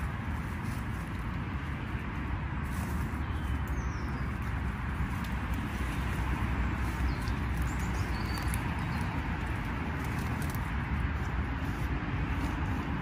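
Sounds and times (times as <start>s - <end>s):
leaves being picked ticks: 0.0s - 13.0s
outdoor rumble and hiss: 0.0s - 13.0s.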